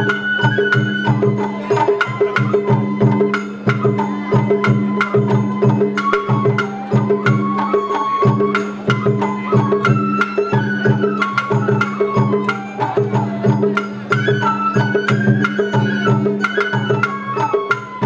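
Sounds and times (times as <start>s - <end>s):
bamboo flute melody: 0.0s - 18.0s
taiko drums beating: 0.0s - 18.0s.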